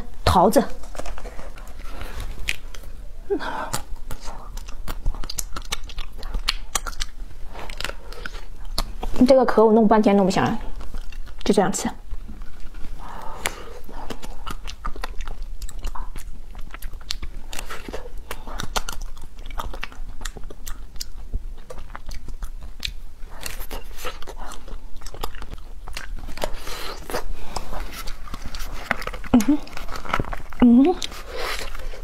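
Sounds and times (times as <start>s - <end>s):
crunching of frozen ice cream: 3.5s - 9.2s, 10.7s - 32.0s.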